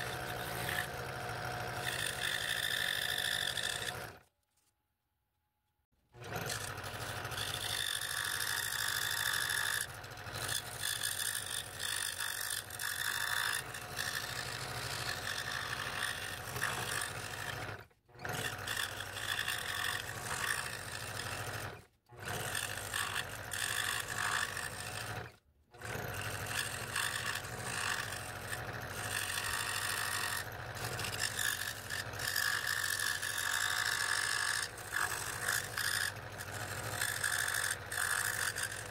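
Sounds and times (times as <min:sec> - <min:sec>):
scroll saw cutting wood: 0:00.0 - 0:04.7, 0:06.1 - 0:38.9.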